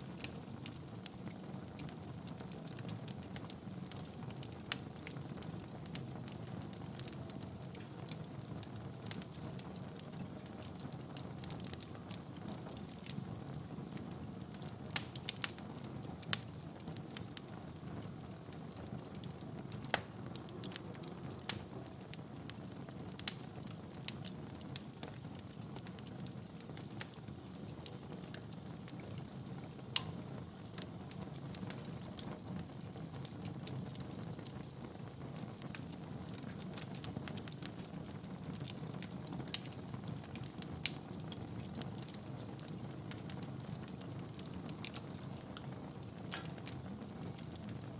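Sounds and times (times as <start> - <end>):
logs crackling and popping: 0.0 - 47.9.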